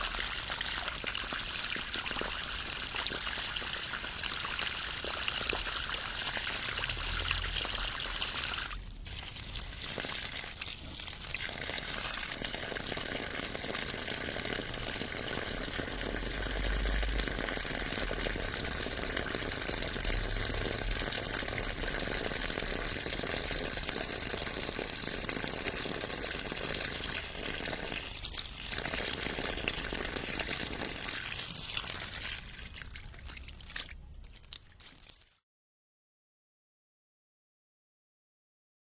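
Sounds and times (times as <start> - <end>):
water rippling and trickling: 0.0 - 35.4.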